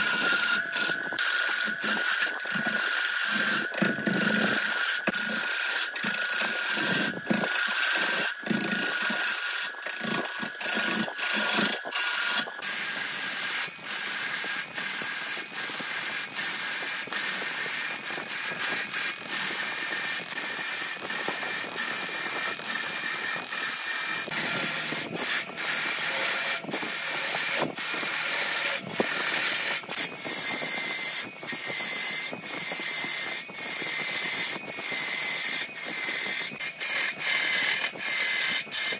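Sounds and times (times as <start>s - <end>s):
lathe tool cutting wood: 0.0s - 38.9s.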